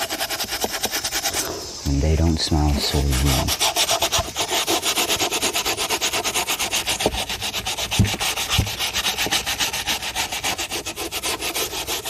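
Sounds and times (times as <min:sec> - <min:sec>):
rapid rubbing on refrigerator surface: 0:00.0 - 0:12.0.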